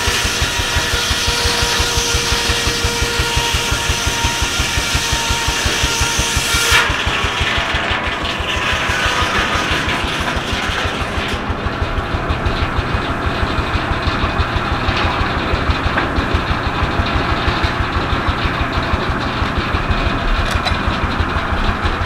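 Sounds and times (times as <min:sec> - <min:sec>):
tractor engine exhaust beat: 0:00.0 - 0:22.0.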